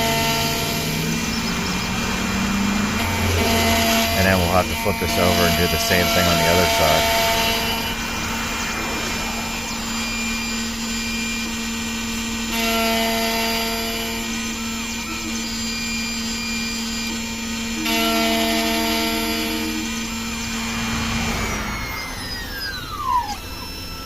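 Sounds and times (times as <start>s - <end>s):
key cutting machine whining: 0.0s - 24.0s.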